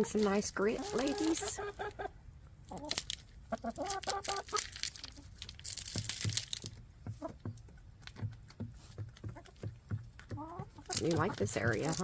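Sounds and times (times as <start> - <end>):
hens clucking: 0.0 - 5.4, 7.0 - 12.0
hens pecking and scratching grit: 0.0 - 12.0.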